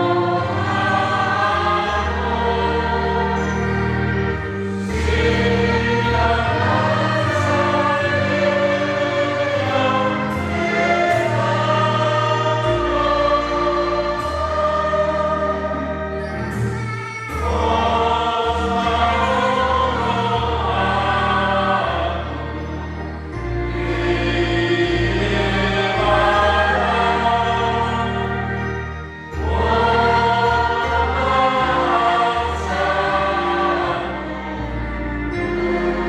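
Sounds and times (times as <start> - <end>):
choir singing a hymn: 0.0 - 36.0.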